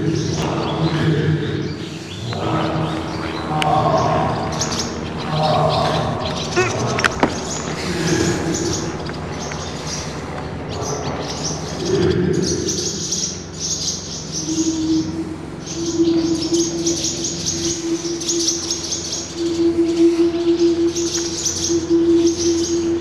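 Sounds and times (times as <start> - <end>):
steady low hum: 0.0 - 23.0
small bird chirping: 1.6 - 23.0.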